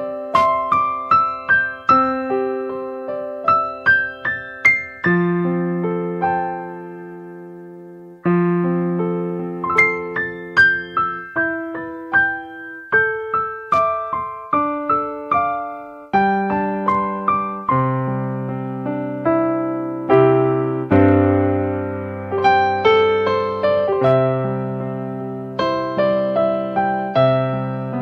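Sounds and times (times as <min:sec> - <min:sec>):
slow piano melody: 0:00.0 - 0:28.0.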